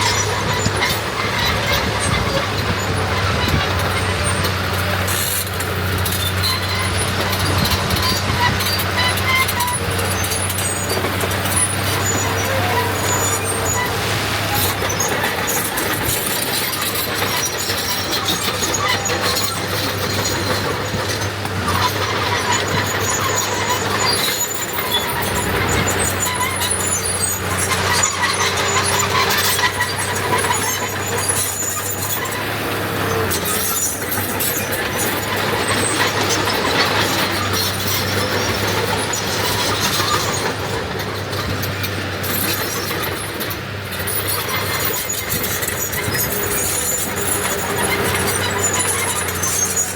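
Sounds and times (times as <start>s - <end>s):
high squeals: 0.0s - 40.7s, 43.9s - 49.9s
heavy diesel machinery running: 0.0s - 49.9s.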